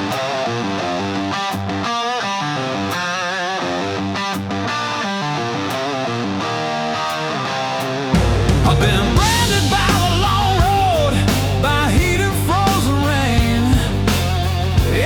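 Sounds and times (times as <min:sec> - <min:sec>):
electric guitar lead: 0:00.0 - 0:15.0
rhythm guitar backing: 0:00.0 - 0:15.0.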